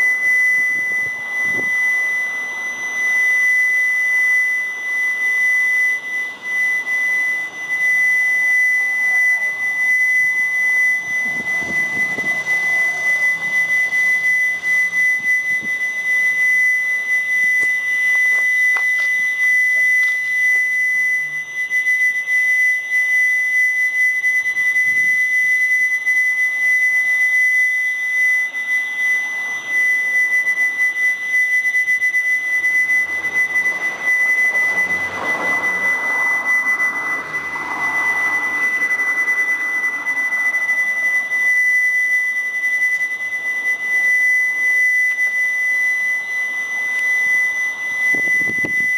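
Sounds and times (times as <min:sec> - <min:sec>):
fainter higher tone: 0:00.0 - 0:48.9
high-pitched whine: 0:00.0 - 0:48.9.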